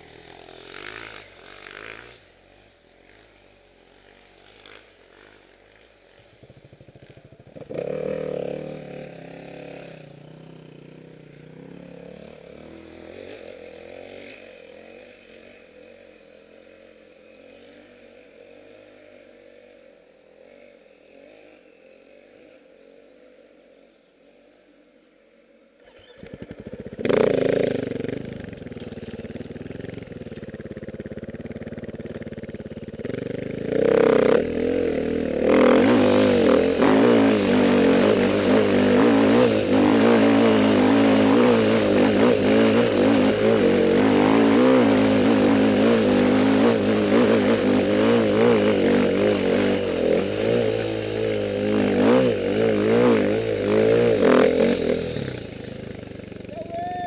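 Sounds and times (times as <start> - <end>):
dirt bike engine: 0.0 - 57.0.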